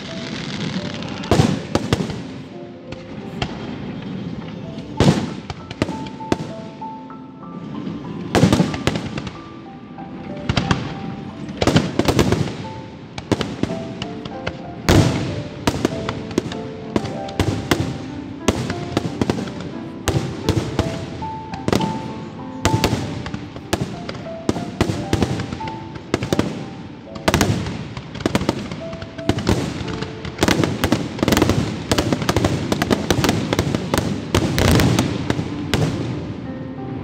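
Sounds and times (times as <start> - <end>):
fireworks bursting: 0.0 - 36.6
melodic music: 0.0 - 37.0.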